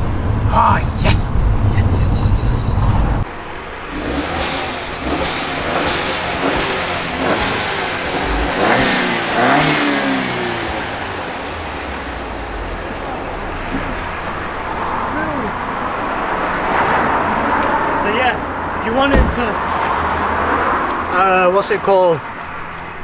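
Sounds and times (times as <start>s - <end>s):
turbo car engine accelerating: 0.0s - 21.5s.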